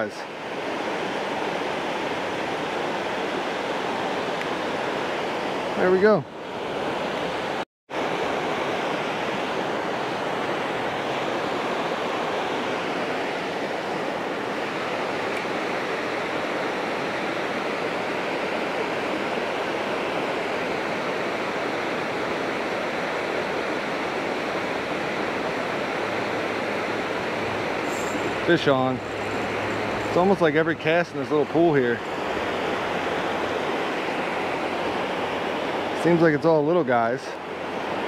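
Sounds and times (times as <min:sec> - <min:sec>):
water rushing over spillway: 0:00.0 - 0:38.0.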